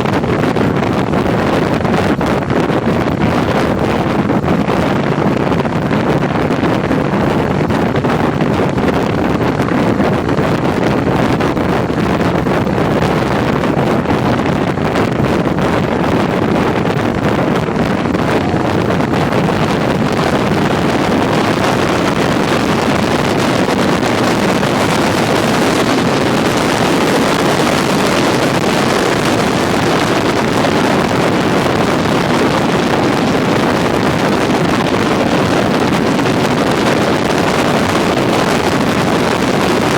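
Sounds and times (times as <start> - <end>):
wind buffeting microphone: 0.0 - 39.9
vehicle road noise: 1.4 - 39.9.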